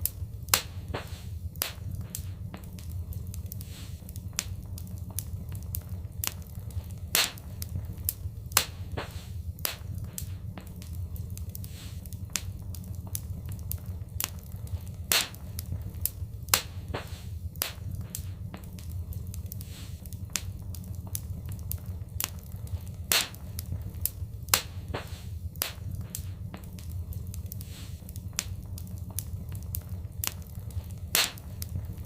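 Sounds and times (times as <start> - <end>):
fireplace fire crackling and popping: 0.0 - 32.0
low rumble: 0.0 - 32.0.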